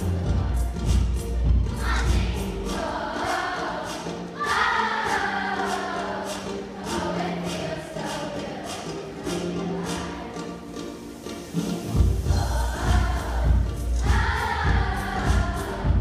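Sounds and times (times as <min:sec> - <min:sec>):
children's choir singing: 0:00.0 - 0:16.0
music accompaniment with steady beat: 0:00.0 - 0:16.0.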